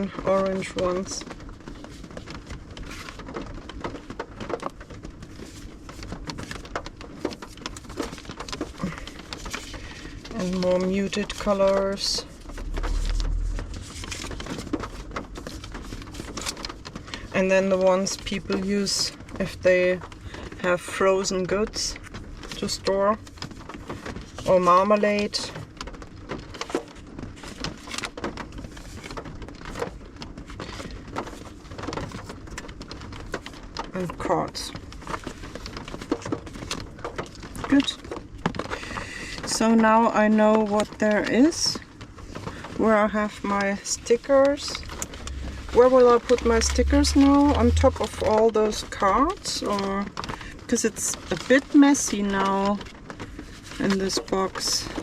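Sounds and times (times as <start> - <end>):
sticker sheets rustling: 0.0 - 25.4, 26.3 - 55.0.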